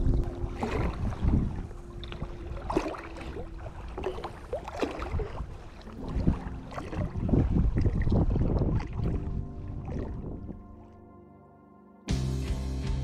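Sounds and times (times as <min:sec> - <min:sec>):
wind rumbling on microphone: 0:00.0 - 0:11.0
water sloshing and splashing: 0:00.0 - 0:11.1.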